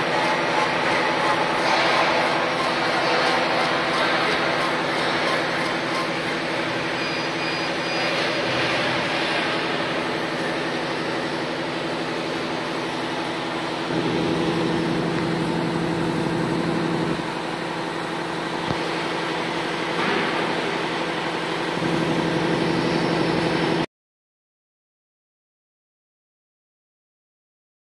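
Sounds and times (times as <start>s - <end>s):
laser engraving machine humming: 0.0s - 23.8s.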